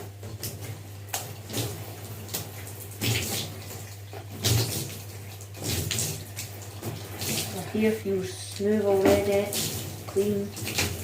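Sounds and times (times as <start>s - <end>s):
water gushes: 0.0s - 11.0s
water splashing in bathtub: 0.0s - 11.0s.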